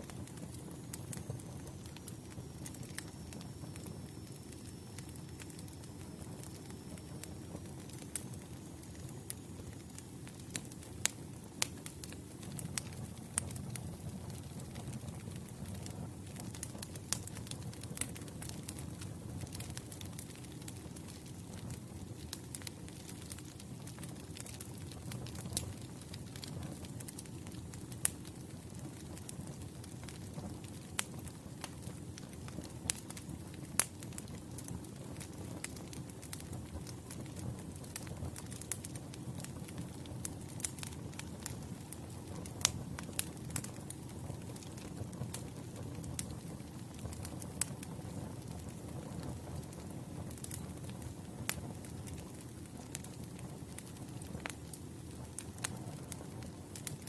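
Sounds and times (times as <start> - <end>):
campfire burning and crackling: 0.0 - 57.0
low rumble of flames: 0.0 - 57.0.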